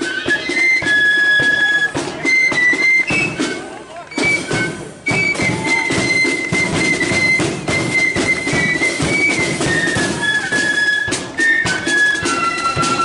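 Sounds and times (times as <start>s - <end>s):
flutes playing melody: 0.0s - 13.0s
marching drums beat: 0.0s - 13.0s.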